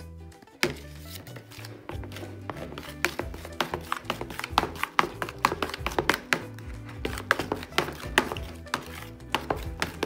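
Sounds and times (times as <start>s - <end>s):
background music with low bass: 0.0s - 10.0s.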